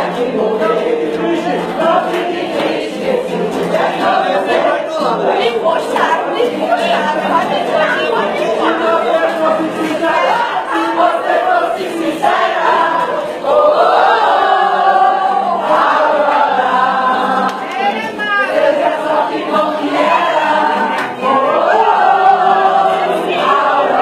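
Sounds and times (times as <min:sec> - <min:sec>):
group singing in unison: 0:00.0 - 0:24.0.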